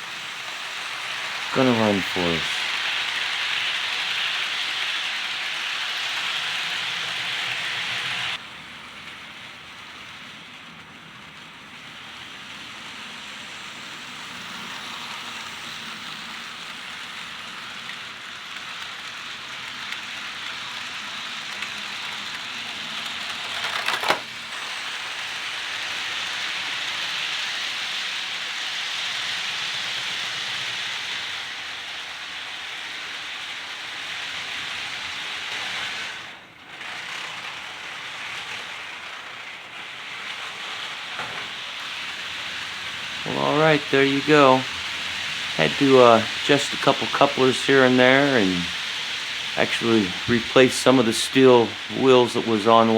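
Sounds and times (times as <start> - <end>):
model train rumbling on rails: 0.0 - 52.9.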